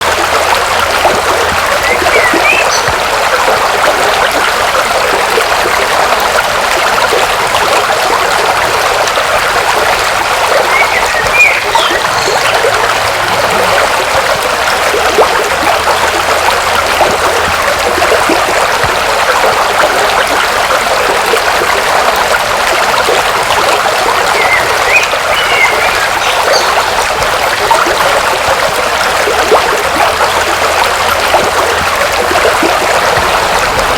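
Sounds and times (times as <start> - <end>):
river water rushing over rocks: 0.0 - 33.9.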